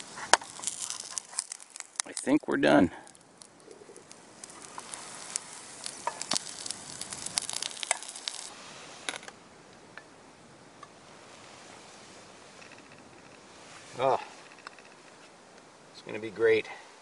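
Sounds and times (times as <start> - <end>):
eggs sizzling in pan: 0.0 - 15.0.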